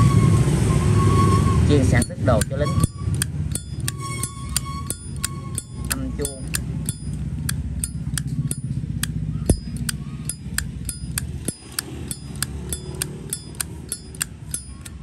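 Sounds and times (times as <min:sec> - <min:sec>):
low hum: 0:02.0 - 0:15.0
lighter lid clicking open and shut: 0:02.4 - 0:15.0.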